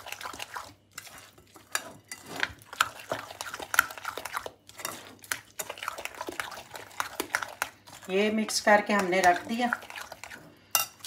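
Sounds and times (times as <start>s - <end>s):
sticky squishes of meat mixing: 0.0s - 11.0s.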